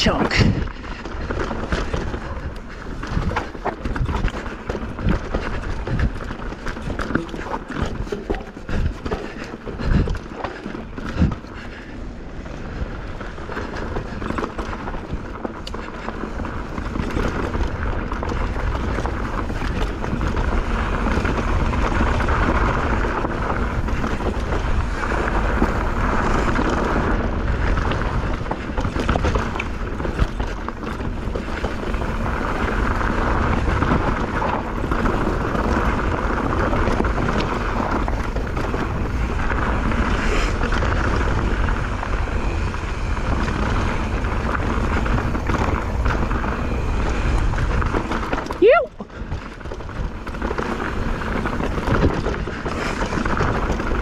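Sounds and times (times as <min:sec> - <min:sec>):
mountain bike rattling over rocks: 0:00.0 - 0:54.0
tyre noise: 0:00.0 - 0:54.0
wind on microphone: 0:00.0 - 0:54.0.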